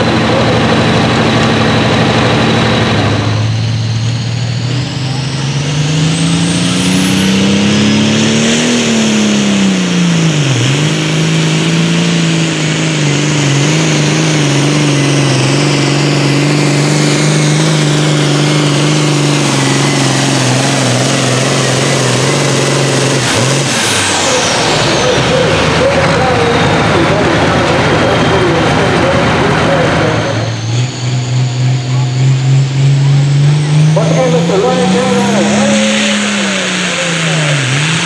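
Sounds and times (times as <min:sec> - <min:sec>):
diesel tractor engine at full throttle: 0:00.0 - 0:38.0
high whine falling: 0:00.0 - 0:38.0.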